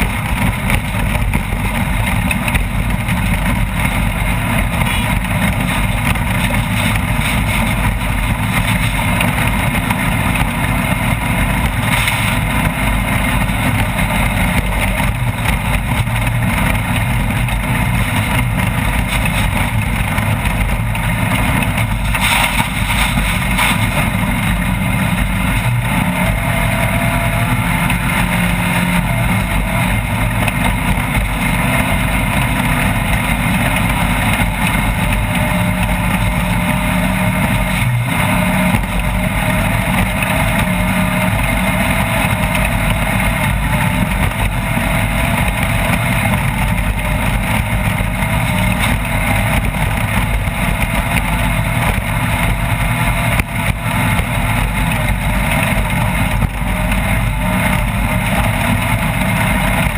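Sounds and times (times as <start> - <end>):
race vehicle engine running hard: 0.0 - 59.9
rough rattling vehicle noise: 0.0 - 59.9.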